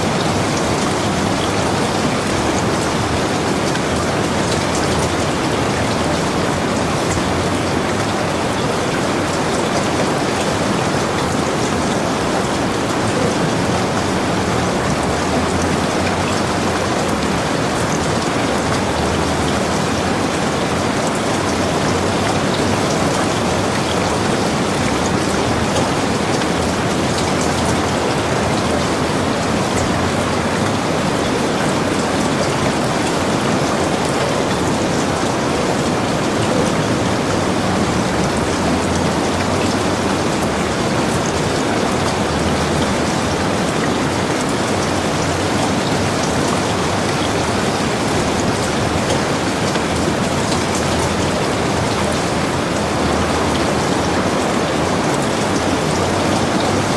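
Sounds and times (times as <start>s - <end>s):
heavy rain on a roof: 0.0s - 56.9s.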